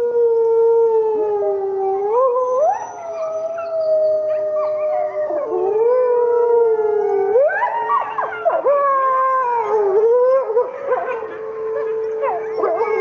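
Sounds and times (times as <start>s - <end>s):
wolves howling: 0.0s - 13.0s.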